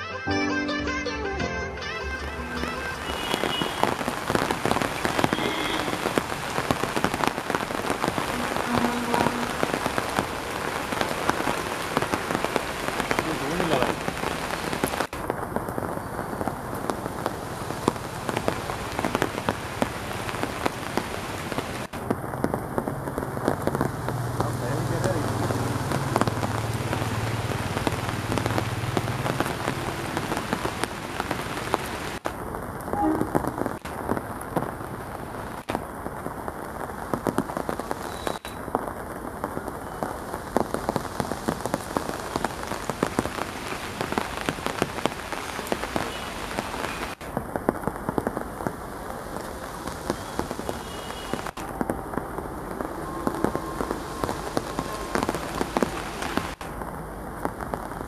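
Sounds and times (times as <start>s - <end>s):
heavy rain pattering: 1.8s - 58.0s.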